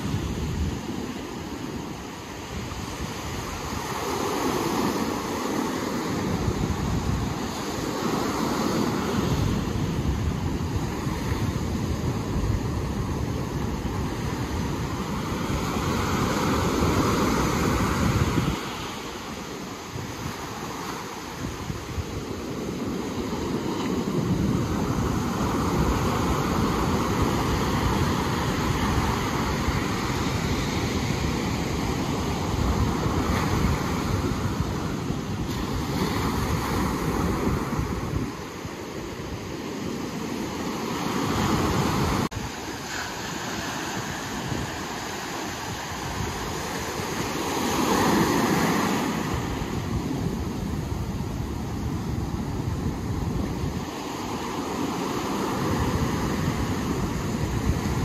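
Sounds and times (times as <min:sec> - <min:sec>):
ocean surf rolling in: 0:00.0 - 0:58.0
wind buffeting microphone: 0:00.0 - 0:58.0.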